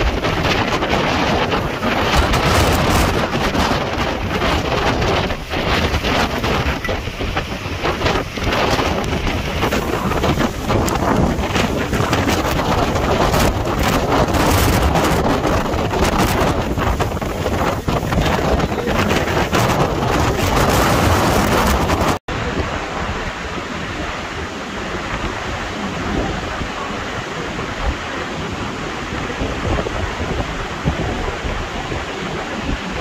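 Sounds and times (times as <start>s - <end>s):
strong wind buffeting microphone: 0.0s - 33.0s.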